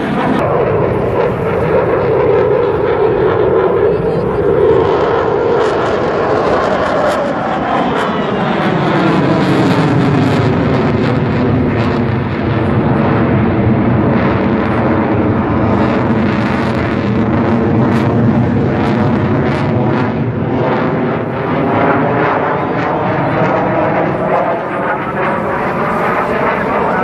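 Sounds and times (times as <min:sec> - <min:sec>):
aircraft engine droning overhead: 0:00.0 - 0:27.0
wind buffeting microphone: 0:00.0 - 0:27.0.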